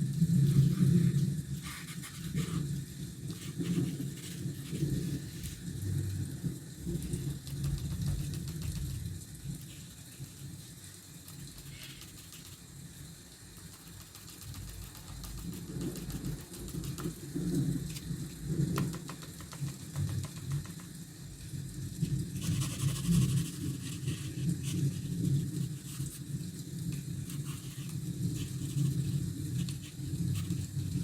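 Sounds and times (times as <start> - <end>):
rain falling: 2.3 - 13.8, 15.4 - 31.0.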